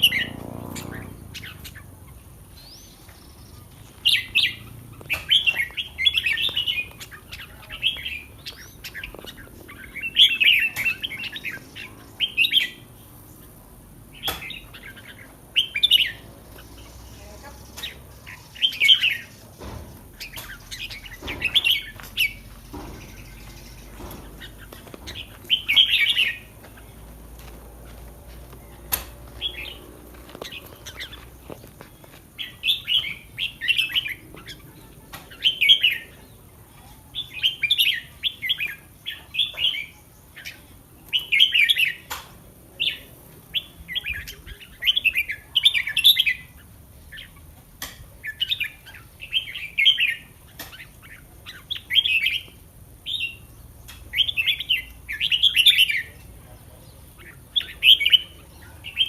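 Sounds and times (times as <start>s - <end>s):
bird singing warbled phrases: 0.0s - 59.0s.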